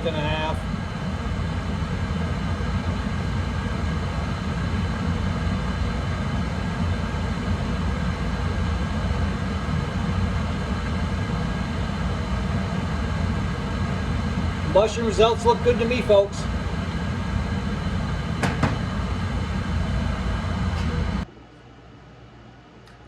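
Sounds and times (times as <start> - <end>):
oil burner rumbling: 0.0 - 21.3.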